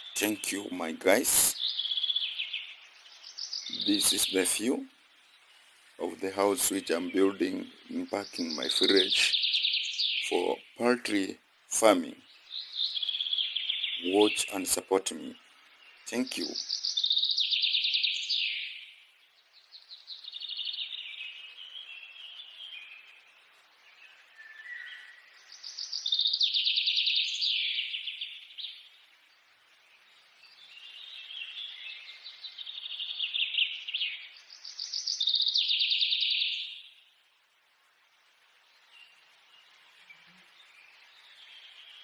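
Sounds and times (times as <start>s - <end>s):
birds trilling chirps: 0.0s - 37.2s, 38.3s - 42.0s.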